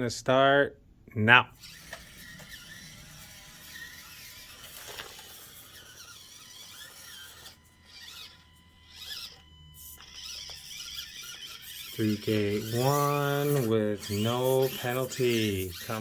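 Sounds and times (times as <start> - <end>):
electric motor and gears whining: 1.6 - 16.0.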